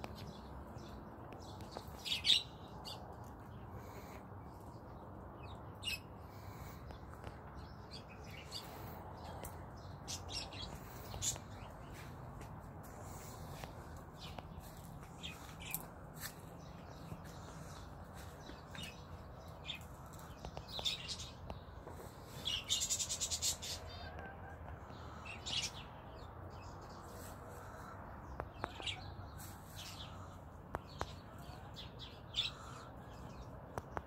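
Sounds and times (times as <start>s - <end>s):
songbirds chirping: 0.0s - 34.0s.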